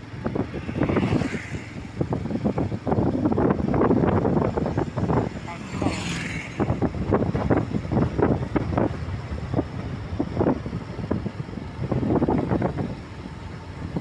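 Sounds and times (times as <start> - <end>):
moving vehicle noise: 0.0 - 14.0
wind buffeting microphone: 0.0 - 14.0.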